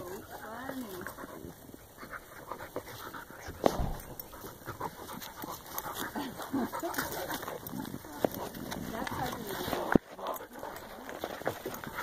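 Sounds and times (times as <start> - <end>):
dogs breathing and grunting: 0.0 - 12.0
dogs scuffling: 0.0 - 12.0.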